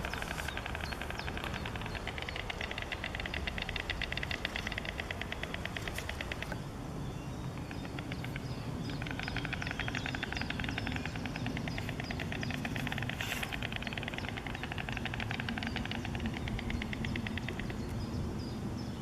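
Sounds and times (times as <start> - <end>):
stork bill clattering: 0.0 - 6.6, 7.6 - 17.9
low background rumble: 0.0 - 19.0.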